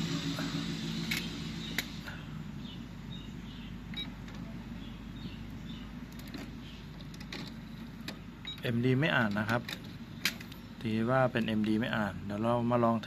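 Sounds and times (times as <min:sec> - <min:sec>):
low mechanical drive hum: 0:00.0 - 0:13.0.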